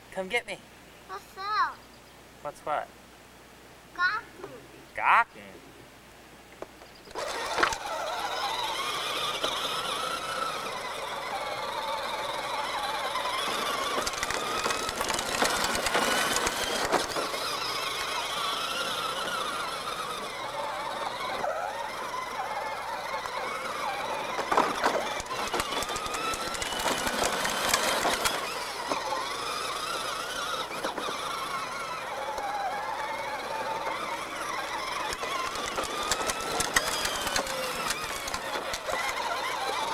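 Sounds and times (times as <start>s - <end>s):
toy truck electric motor whining: 7.1s - 39.9s.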